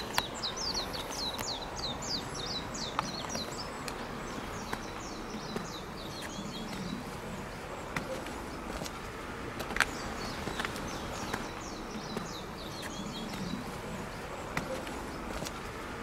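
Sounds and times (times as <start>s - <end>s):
small birds chirping: 0.0s - 16.0s
soft footsteps: 0.0s - 16.0s.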